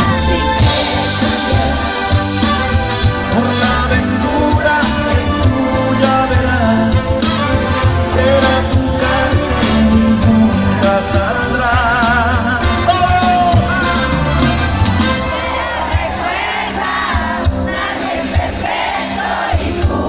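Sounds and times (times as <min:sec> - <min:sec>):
live band music: 0:00.0 - 0:20.0.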